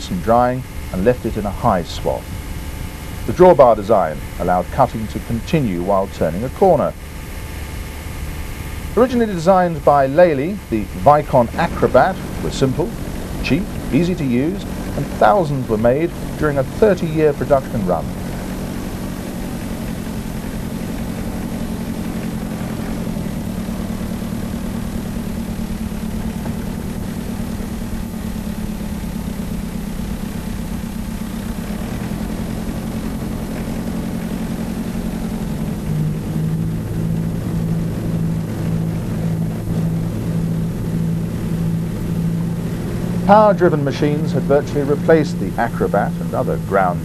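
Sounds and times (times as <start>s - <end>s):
tractor engine running: 0.0s - 47.0s.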